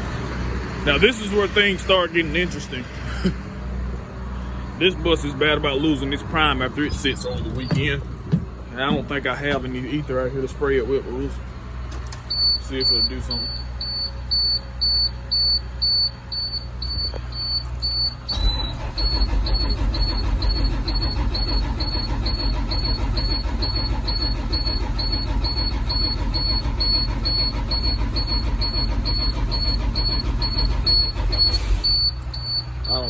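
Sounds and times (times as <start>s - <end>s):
diesel engine cranking: 0.0s - 33.0s
warning beeper beeping: 4.8s - 11.3s, 12.3s - 33.0s.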